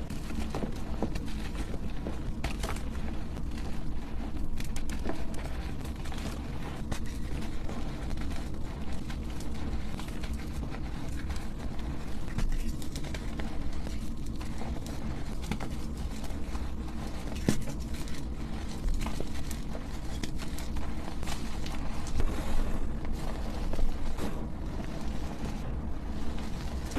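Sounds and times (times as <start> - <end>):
chalk blocks crunching: 0.0 - 26.9.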